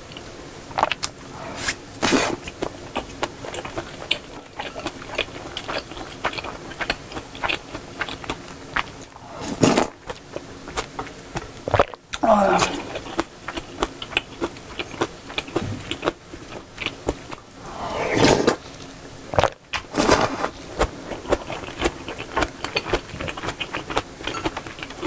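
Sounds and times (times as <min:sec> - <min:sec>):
person chewing food: 0:00.1 - 0:18.6, 0:19.4 - 0:25.0.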